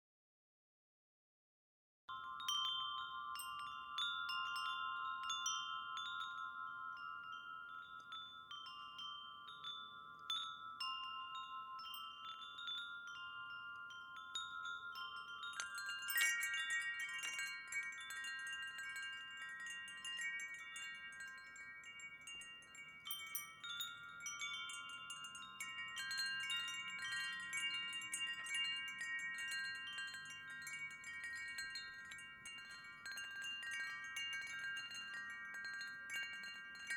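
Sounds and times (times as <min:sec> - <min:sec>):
wind chimes ringing: 0:02.1 - 0:36.9.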